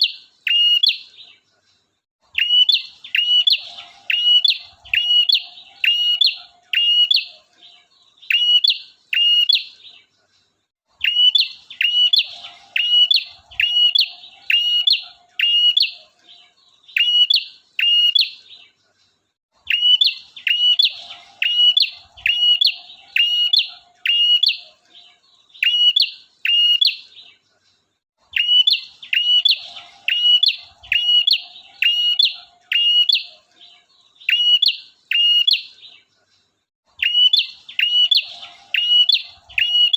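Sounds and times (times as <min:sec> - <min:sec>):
bird singing sharp repeated notes: 0:02.3 - 0:10.0, 0:11.0 - 0:18.6, 0:19.6 - 0:27.3, 0:28.2 - 0:36.0, 0:36.9 - 0:39.9.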